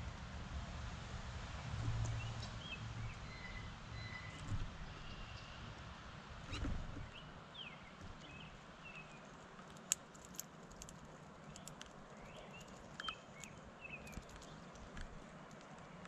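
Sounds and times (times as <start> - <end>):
songbirds chirping: 2.0 - 5.8, 6.5 - 16.0.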